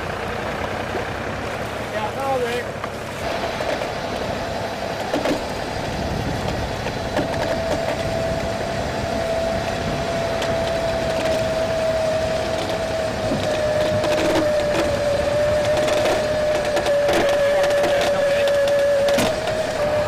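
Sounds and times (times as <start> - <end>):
steady winch whine: 0.0 - 20.0
boat hull creaking and grinding: 0.4 - 20.0.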